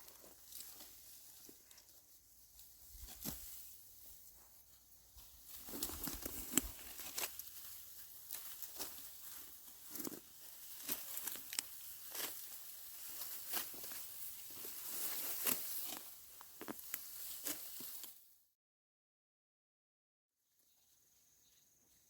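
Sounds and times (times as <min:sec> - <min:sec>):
dry rustling and crackling: 0:00.0 - 0:18.2.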